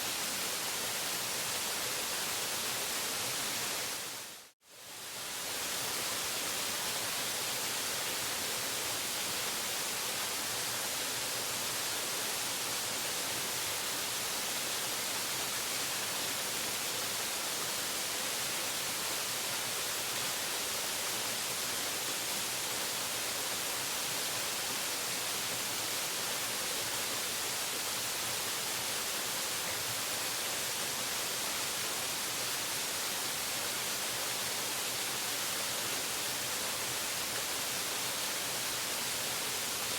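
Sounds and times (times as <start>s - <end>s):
waterfall hissing: 0.0s - 39.9s.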